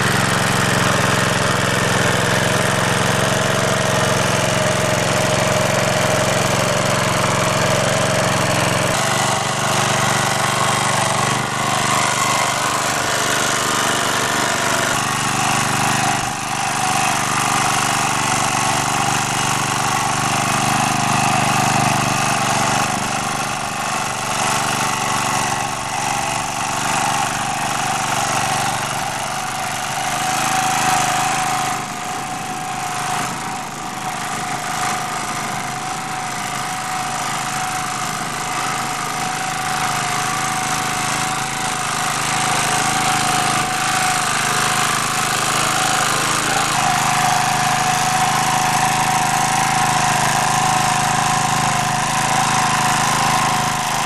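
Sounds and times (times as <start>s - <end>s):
rotary tiller churning soil: 0.0s - 54.0s
tractor engine running: 0.0s - 54.0s.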